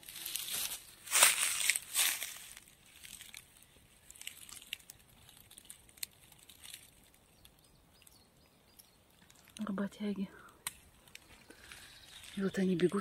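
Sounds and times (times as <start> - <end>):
dry twig litter crackling: 0.0 - 13.0.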